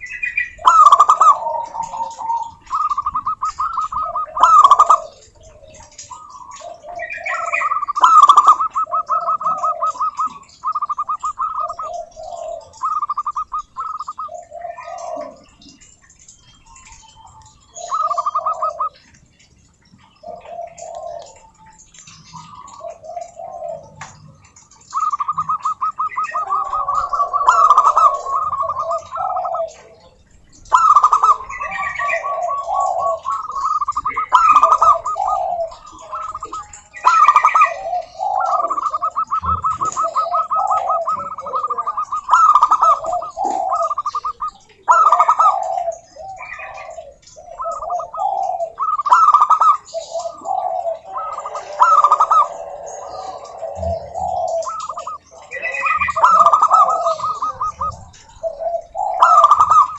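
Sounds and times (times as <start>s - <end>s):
dove cooing song: 0.0s - 59.9s.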